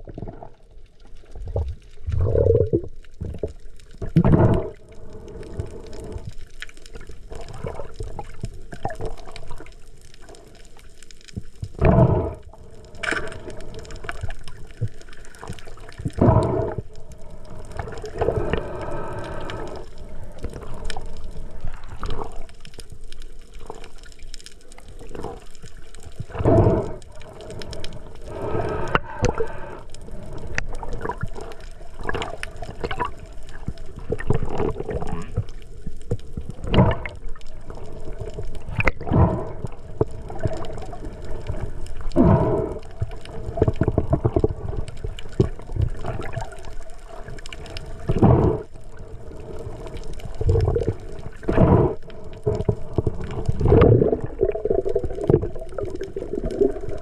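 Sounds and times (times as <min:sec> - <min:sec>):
muffled underwater gurgling and sloshing: 0:00.0 - 0:57.0
rushes of water: 0:00.0 - 0:57.0.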